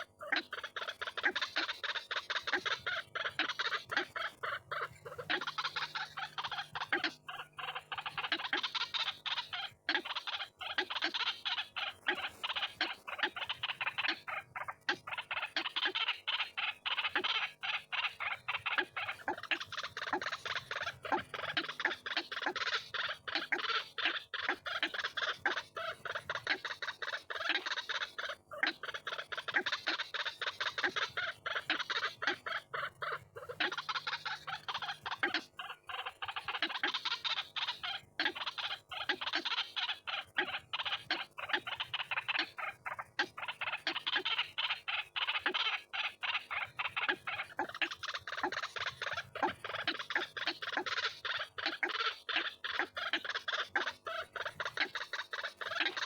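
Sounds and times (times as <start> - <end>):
waterhen calling: 0.0 - 56.0.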